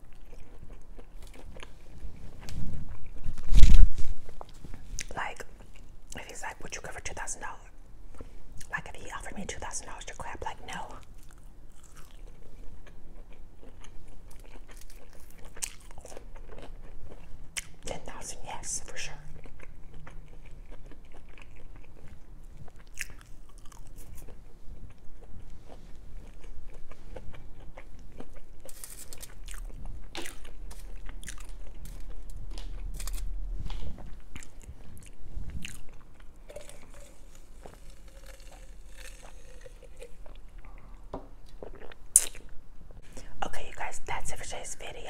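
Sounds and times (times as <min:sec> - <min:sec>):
soft wet chewing: 0:00.0 - 0:03.5, 0:04.2 - 0:45.0
crunchy food chewing: 0:00.0 - 0:06.6, 0:10.4 - 0:42.5.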